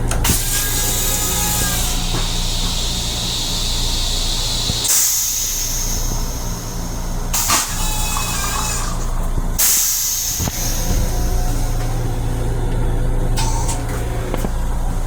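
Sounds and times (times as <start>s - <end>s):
electric train hum and hiss: 0.0s - 15.0s.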